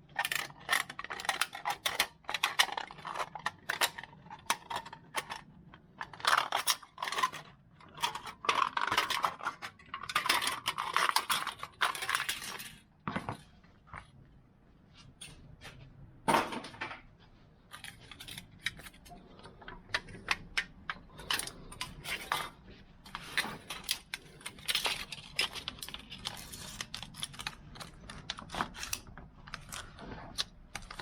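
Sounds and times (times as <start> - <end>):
crinkling scrapes: 0.1 - 14.2, 17.2 - 31.0.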